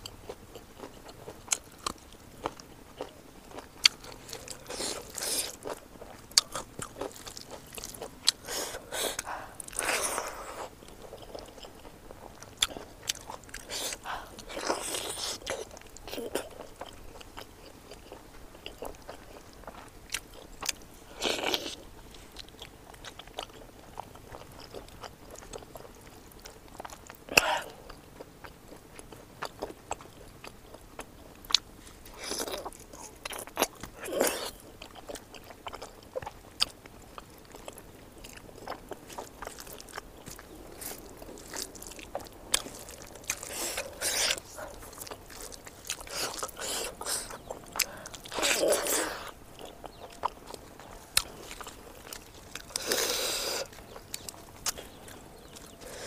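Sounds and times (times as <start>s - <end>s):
bites and crunches: 0.0s - 56.0s
person chewing and smacking: 0.0s - 56.0s.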